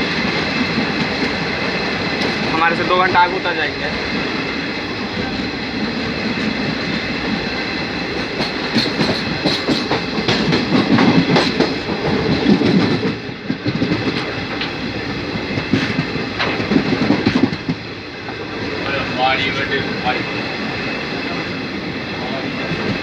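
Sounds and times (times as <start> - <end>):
wheels clicking over rail joints: 0.0 - 20.4
train rumbling on the track: 0.0 - 23.0.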